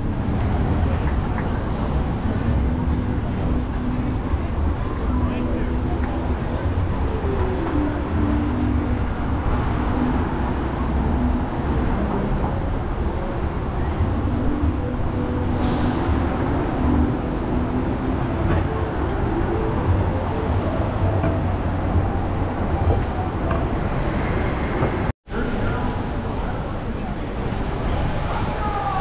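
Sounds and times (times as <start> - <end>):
street traffic rumble: 0.0 - 29.0.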